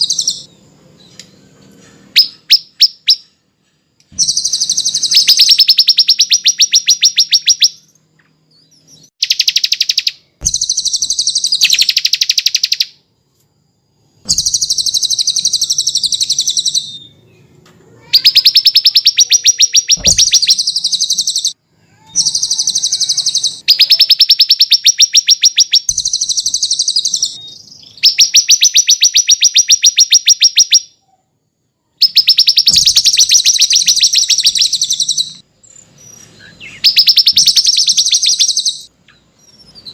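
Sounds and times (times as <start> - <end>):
songbird high-pitched trill: 0.0 - 3.5, 4.1 - 13.0, 14.2 - 31.0, 32.0 - 39.9.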